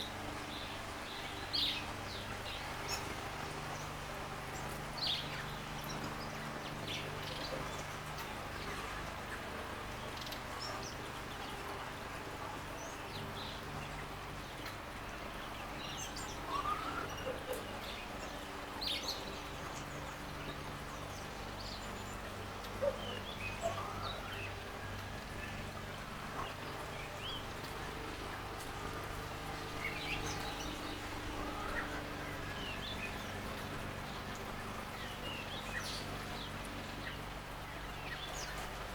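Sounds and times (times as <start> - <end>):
birds chirping: 0.0 - 38.9
low hum and hiss: 0.0 - 38.9.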